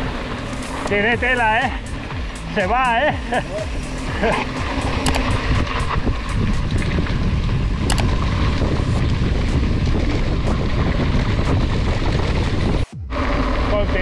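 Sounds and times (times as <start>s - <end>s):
tyres rumbling over dirt track: 0.0s - 14.0s
wind buffeting microphone: 0.0s - 14.0s
bike clicks and rattles: 2.0s - 14.0s.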